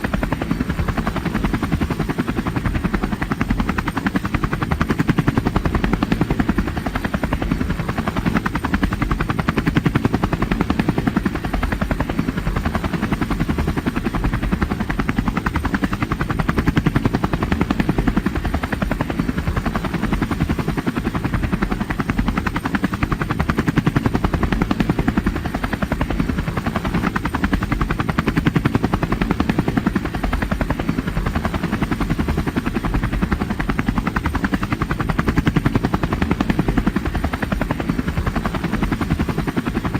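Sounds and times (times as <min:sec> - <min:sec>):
deep engine and turbine noise: 0:00.0 - 0:39.9
helicopter rotor blades beating: 0:00.0 - 0:39.9.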